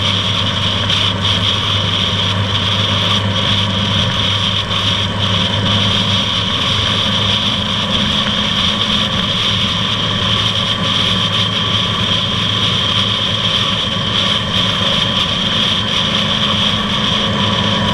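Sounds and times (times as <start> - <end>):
motorcycle engine drone: 0.0 - 17.9
wind rush: 0.0 - 17.9.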